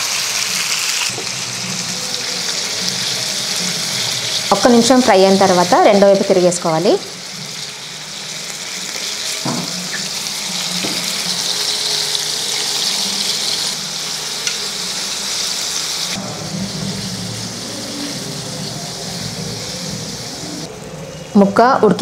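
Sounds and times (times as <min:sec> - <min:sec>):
fish sizzling in oil: 0:00.0 - 0:20.7.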